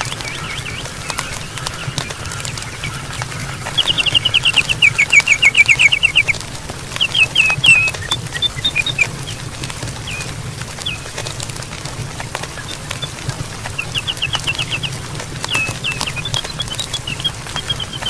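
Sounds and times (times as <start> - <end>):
bird chirping: 0.0 - 18.0
campfire crackling and popping: 0.0 - 18.0.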